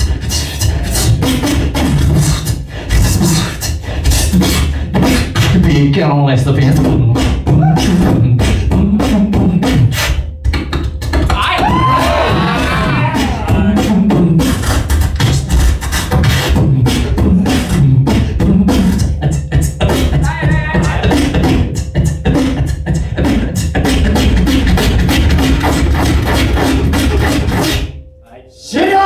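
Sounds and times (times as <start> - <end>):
beatboxing through a pa: 0.0 - 28.0
heavy amplified bass: 0.0 - 29.0
pitched vocal glides: 0.0 - 29.0.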